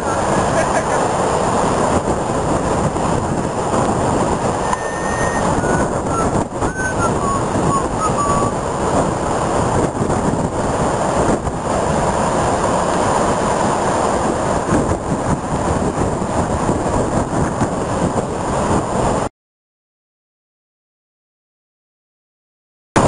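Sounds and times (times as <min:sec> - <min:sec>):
waves crashing on beach: 0:00.0 - 0:19.3
wind buffeting microphone: 0:00.0 - 0:19.3.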